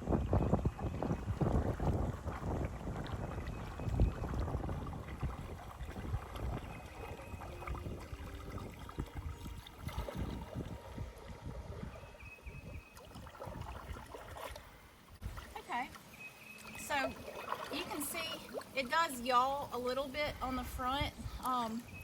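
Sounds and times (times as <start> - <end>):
wind rumbling on microphone: 0.0 - 15.6, 16.8 - 22.0
kayak paddle strokes in water: 0.0 - 20.3.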